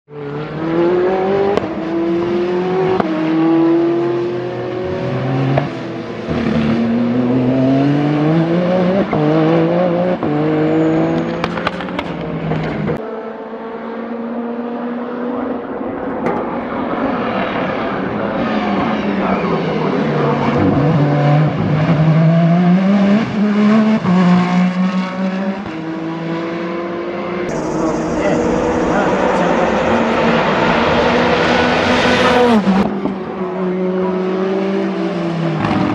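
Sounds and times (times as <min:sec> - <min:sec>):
race car engine accelerating: 0:00.1 - 0:35.9.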